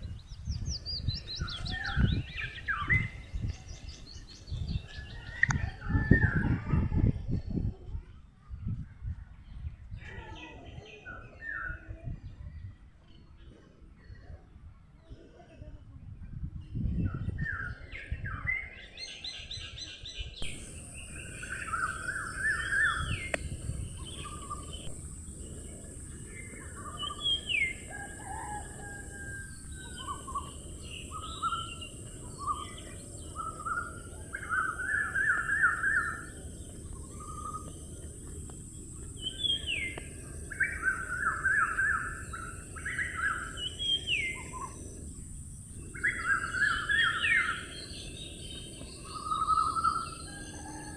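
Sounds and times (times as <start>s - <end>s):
songbirds chirping and singing: 0.0s - 7.7s, 16.6s - 50.9s.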